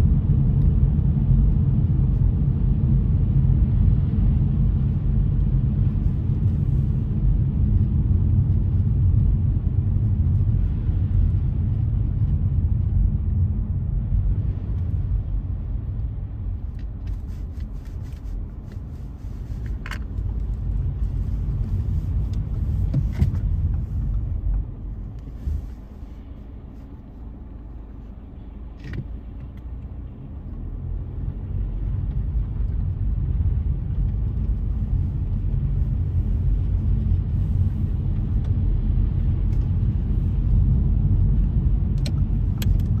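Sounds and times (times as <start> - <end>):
car driving on wet road: 0.0 - 43.0.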